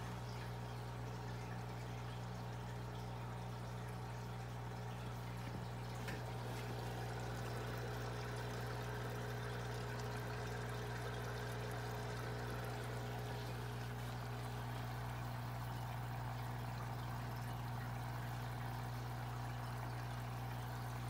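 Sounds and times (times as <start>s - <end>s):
aquarium equipment hum: 0.0s - 21.0s
water trickling and bubbling: 0.0s - 21.0s.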